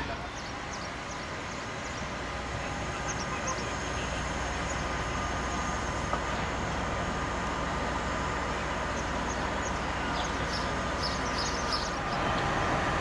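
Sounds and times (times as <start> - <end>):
diesel locomotive engine humming: 0.0 - 13.0.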